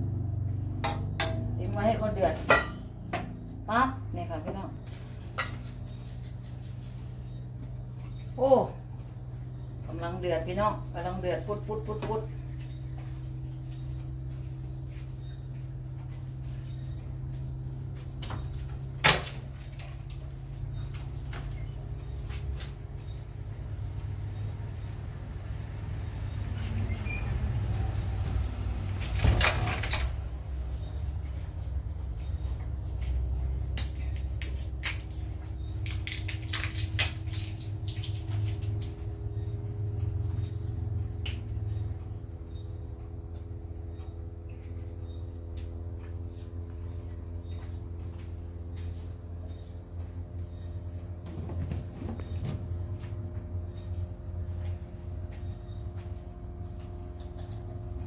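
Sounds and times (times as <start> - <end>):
pan heating low rumble: 0.0 - 58.0.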